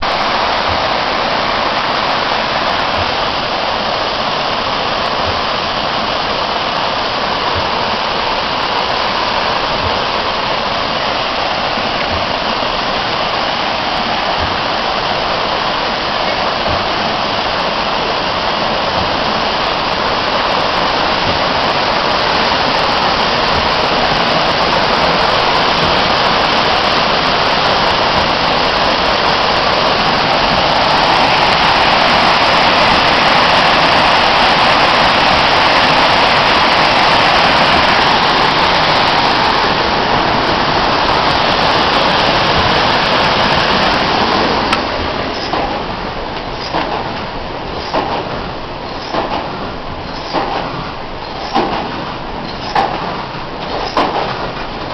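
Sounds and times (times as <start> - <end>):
falling water rushing: 0.0 - 54.9.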